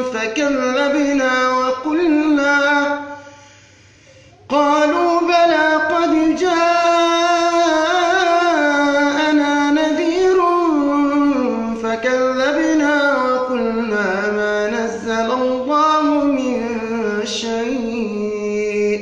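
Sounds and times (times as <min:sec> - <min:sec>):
man reciting melodically: 0:00.0 - 0:03.6, 0:04.2 - 0:19.0.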